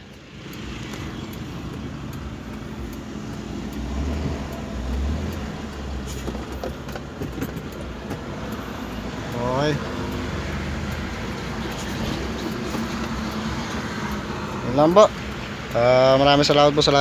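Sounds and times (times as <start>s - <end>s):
van engine and road rumble: 0.0s - 17.0s.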